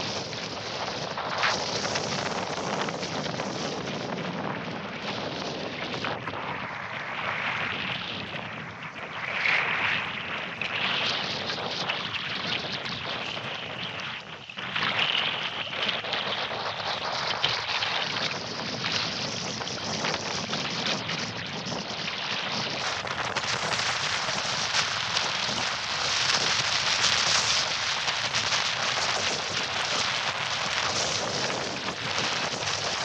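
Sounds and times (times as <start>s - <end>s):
choppy water splashing: 0.0s - 33.0s
strong wind: 0.0s - 33.0s
wind buffeting microphone: 0.0s - 33.0s.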